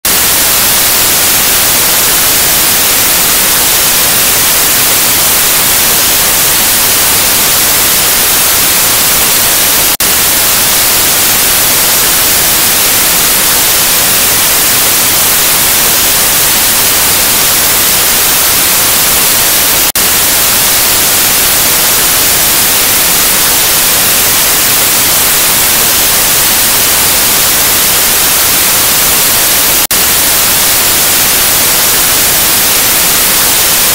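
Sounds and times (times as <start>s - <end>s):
tv static hiss: 0.0s - 33.9s.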